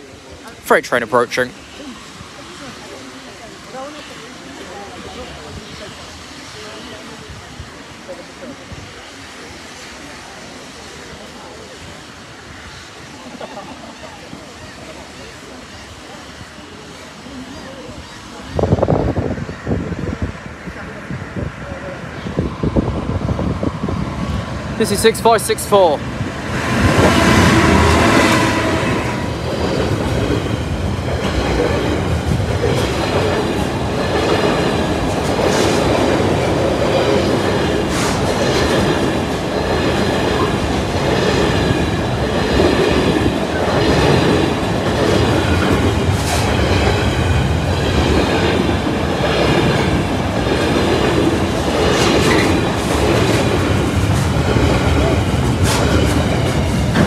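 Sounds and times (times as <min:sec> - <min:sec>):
freight train rumbling on rails: 0:00.0 - 0:57.0.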